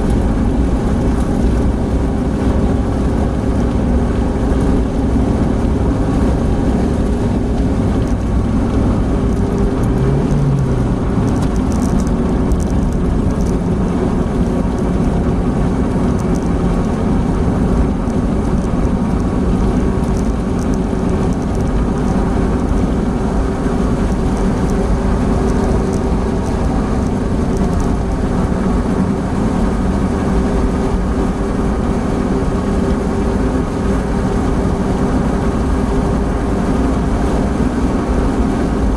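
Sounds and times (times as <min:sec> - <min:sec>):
car cabin engine and road drone: 0:00.0 - 0:38.9.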